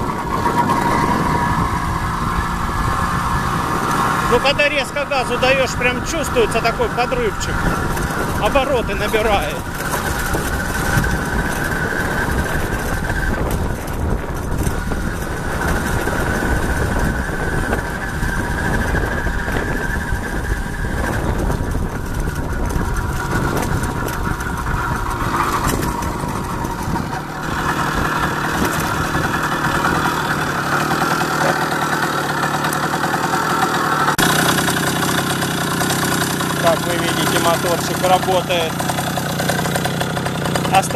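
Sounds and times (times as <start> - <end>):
road rumble: 0.0 - 40.9
two-stroke motorbike engine: 0.0 - 40.9.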